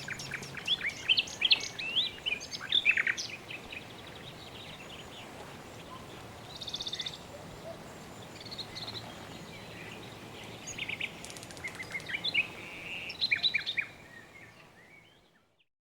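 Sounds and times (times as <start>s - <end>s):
background hiss: 0.0s - 15.3s
birds chirping and trilling: 0.0s - 15.6s.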